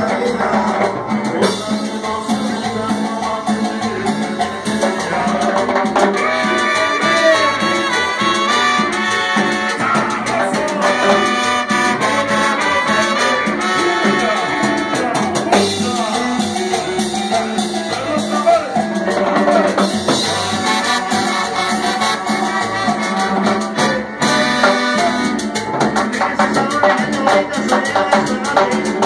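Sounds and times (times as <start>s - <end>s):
live cumbia band playing: 0.0s - 29.0s
steady percussion: 0.0s - 29.0s
trombone and trumpets: 0.0s - 29.0s.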